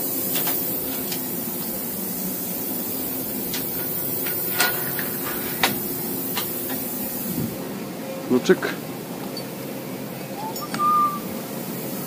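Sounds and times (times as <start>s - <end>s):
machine shop hum and hiss: 0.0s - 12.0s.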